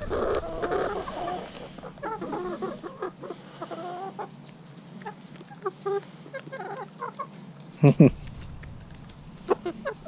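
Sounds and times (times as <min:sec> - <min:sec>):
chickens clucking: 0:00.0 - 0:10.0
chickens pecking: 0:00.0 - 0:10.0.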